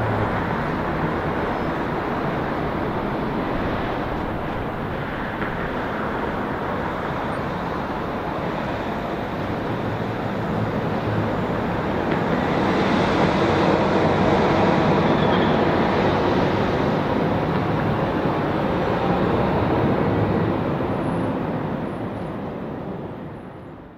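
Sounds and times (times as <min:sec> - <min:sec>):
jet engines roaring: 0:00.0 - 0:23.3.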